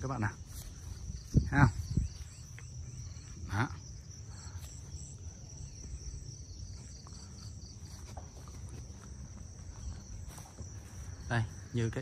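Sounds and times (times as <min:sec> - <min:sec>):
insects droning high-pitched: 0:00.0 - 0:12.0
pulsed insect chirping: 0:00.0 - 0:12.0.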